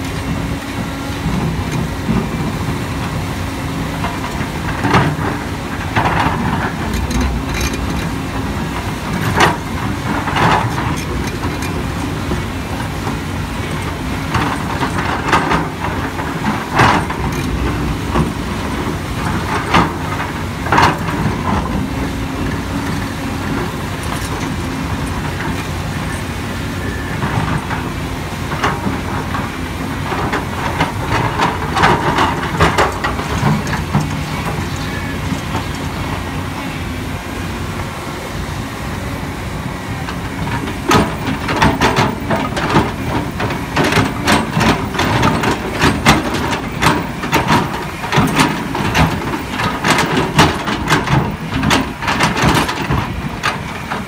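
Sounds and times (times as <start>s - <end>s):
machine clanking and knocking: 0.0s - 38.0s, 39.8s - 54.0s
excavator diesel engine running: 0.0s - 54.0s.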